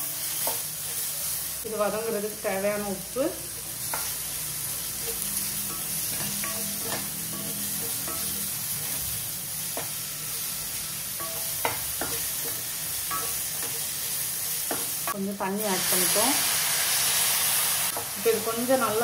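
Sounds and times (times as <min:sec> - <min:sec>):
masala sizzling in a frying pan: 0:00.0 - 0:19.0.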